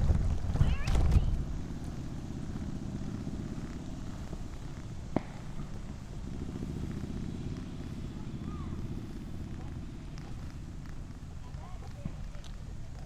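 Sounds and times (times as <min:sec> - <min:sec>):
vehicle running rumble: 0:00.0 - 0:13.0.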